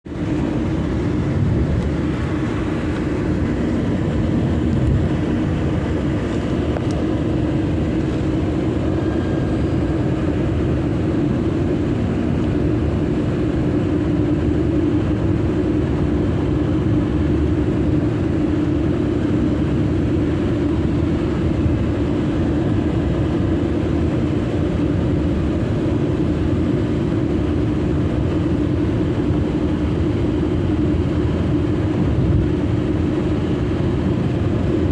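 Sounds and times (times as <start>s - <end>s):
car driving road noise: 0.0s - 34.9s.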